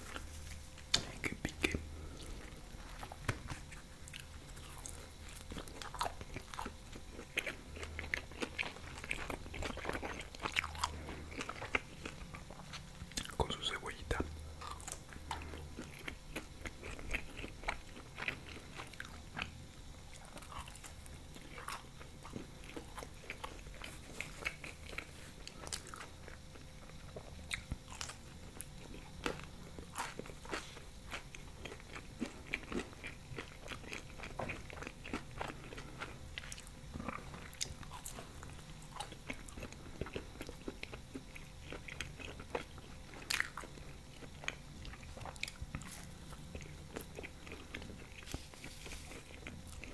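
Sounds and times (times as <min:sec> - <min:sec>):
biting and chewing pizza: 0:00.0 - 0:49.9.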